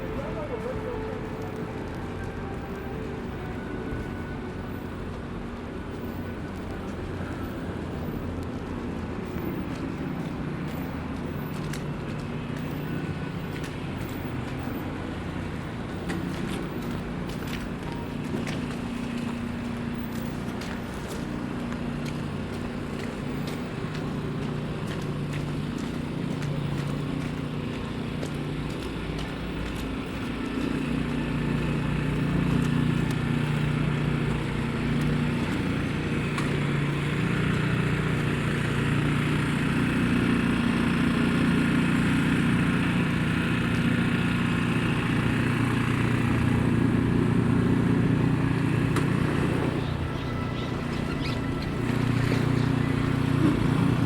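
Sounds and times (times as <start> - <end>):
vehicle engines humming: 0.0 - 54.0.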